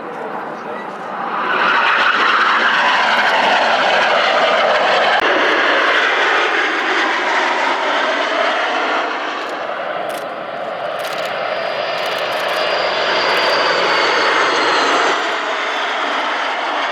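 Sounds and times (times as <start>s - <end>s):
military jet passing: 0.2s - 16.9s.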